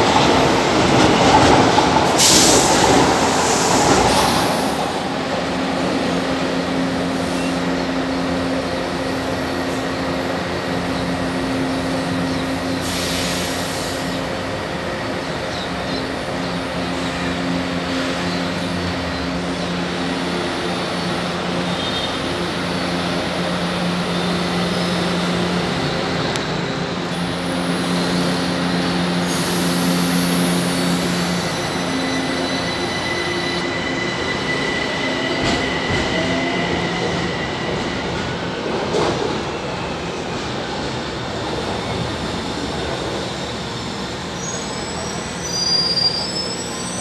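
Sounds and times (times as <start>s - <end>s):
electric hum of trains: 0.0s - 47.0s
rising tones of moving train: 0.0s - 47.0s
train running noise: 0.0s - 47.0s.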